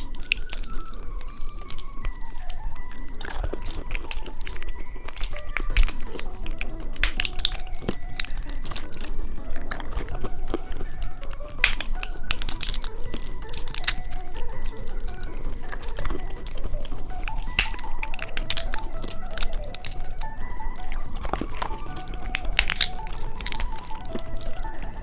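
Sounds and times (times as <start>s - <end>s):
candy packaging crinkling: 0.0s - 25.0s
soft background music: 0.0s - 25.0s.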